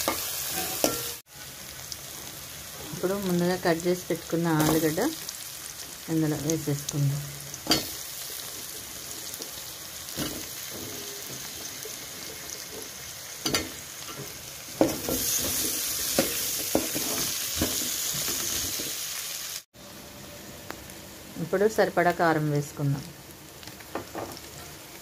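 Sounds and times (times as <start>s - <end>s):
potatoes sizzling in hot oil: 0.0s - 25.0s.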